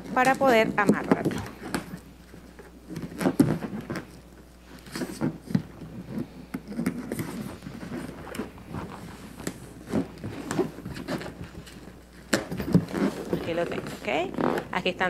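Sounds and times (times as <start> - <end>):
hands rubbing balloons: 0.0 - 15.0.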